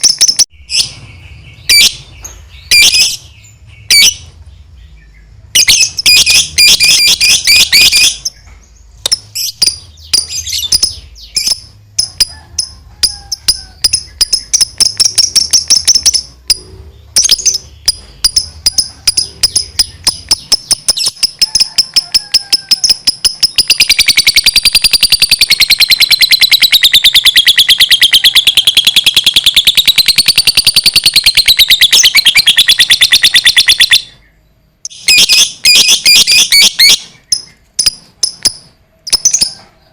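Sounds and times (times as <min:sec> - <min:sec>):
lovebird chirping and trilling: 0:00.0 - 0:39.7.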